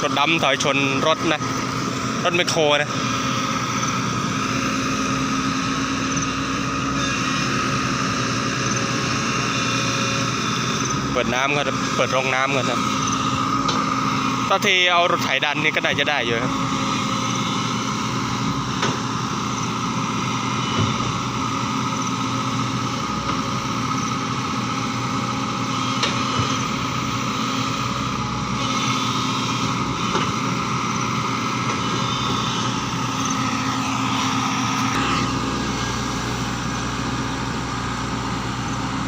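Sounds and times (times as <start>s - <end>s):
heavy machinery diesel engine: 0.0s - 39.0s.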